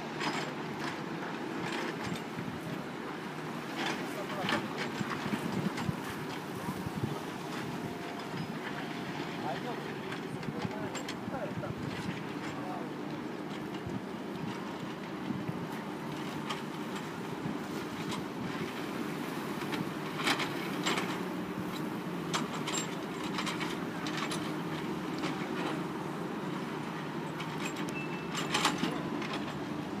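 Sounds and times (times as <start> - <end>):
construction machinery engines humming: 0.0 - 30.0.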